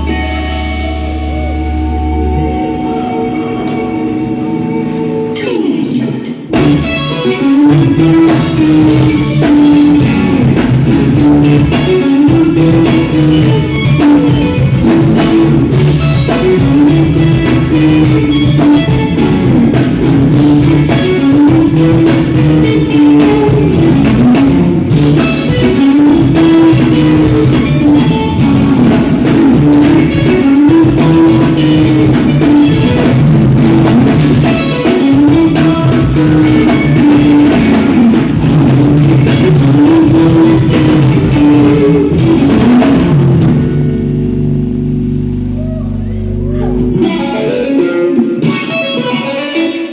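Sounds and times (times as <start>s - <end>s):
bass guitar: 0.0s - 49.9s
clean electric guitars: 0.0s - 49.9s
drum kit: 0.0s - 49.9s.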